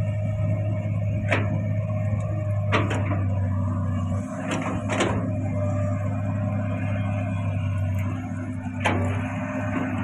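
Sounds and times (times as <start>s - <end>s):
excavator diesel engine drone: 0.0s - 10.0s.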